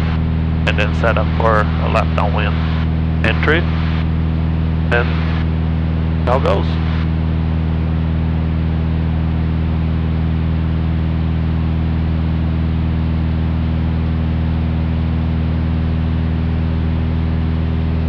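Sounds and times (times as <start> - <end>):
airplane engine and propeller drone: 0.0 - 18.0.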